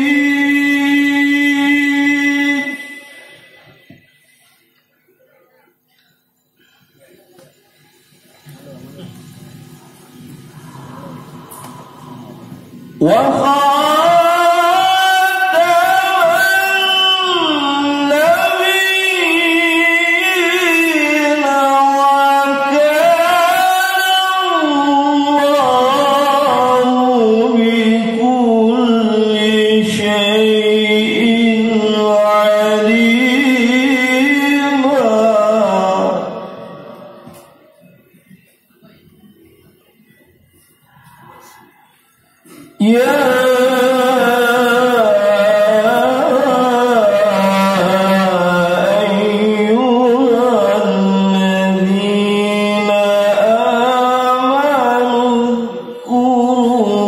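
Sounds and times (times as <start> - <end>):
man reciting melodically: 0.0 - 4.4, 10.6 - 39.4, 40.6 - 57.0
man chanting through a loudspeaker: 0.0 - 4.5, 10.4 - 38.4, 40.7 - 57.0.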